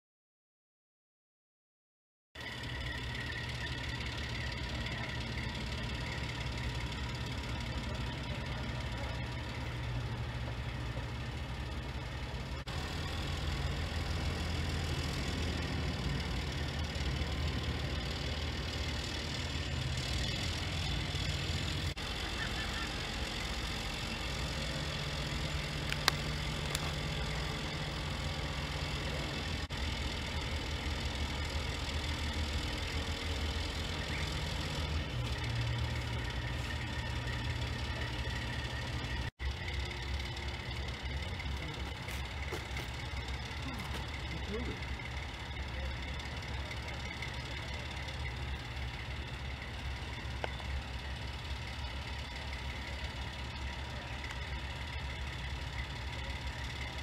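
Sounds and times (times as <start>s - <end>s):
crane diesel engine running: 2.4s - 57.0s.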